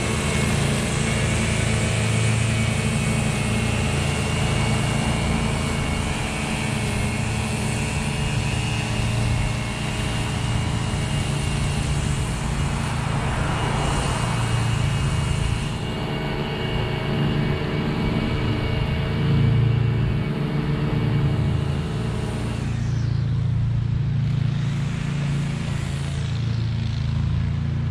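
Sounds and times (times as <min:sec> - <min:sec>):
lawn mower engine humming: 0:00.0 - 0:27.9.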